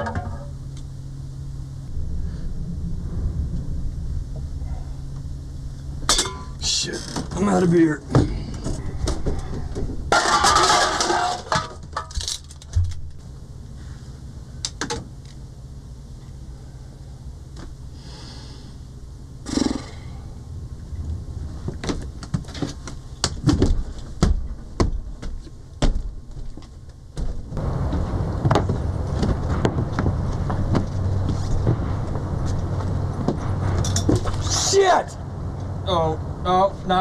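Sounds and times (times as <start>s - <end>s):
low steady hum: 0.0s - 37.0s
outdoor noise: 0.0s - 37.0s.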